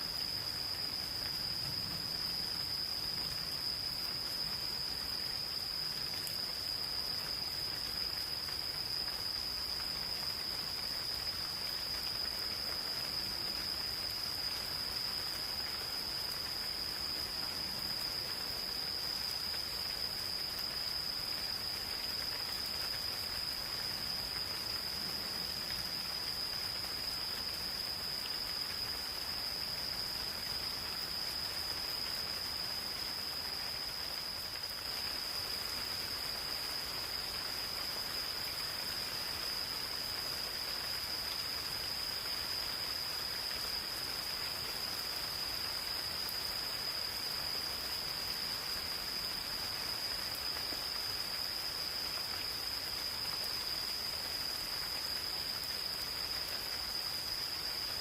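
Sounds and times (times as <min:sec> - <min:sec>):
gentle rain in a forest: 0:00.0 - 0:58.0
insects trilling: 0:00.0 - 0:58.0.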